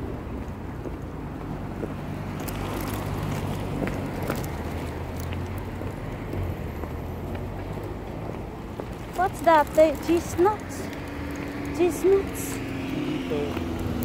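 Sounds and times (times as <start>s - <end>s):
pushchair wheels rolling on tarmac: 0.4s - 14.0s.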